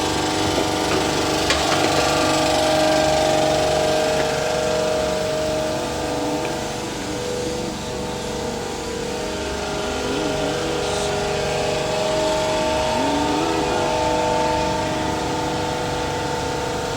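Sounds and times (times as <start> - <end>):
refrigeration compressors humming: 0.0 - 16.9.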